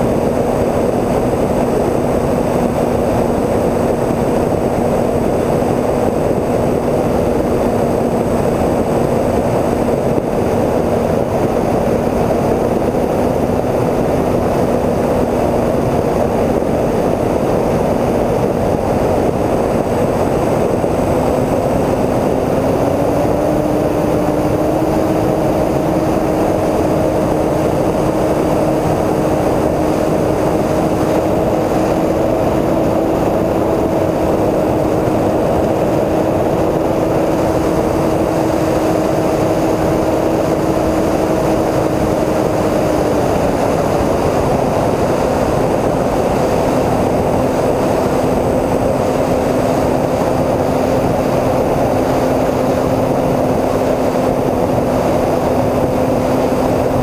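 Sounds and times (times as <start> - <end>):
electric motors and propellers humming: 0.0 - 57.0
wind rushing over microphone: 0.0 - 57.0.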